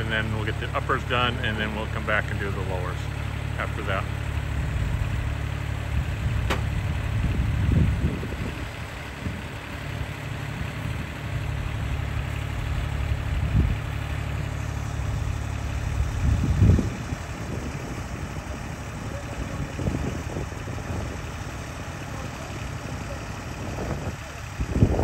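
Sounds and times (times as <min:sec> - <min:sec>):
engine idling with low hum: 0:00.0 - 0:25.0.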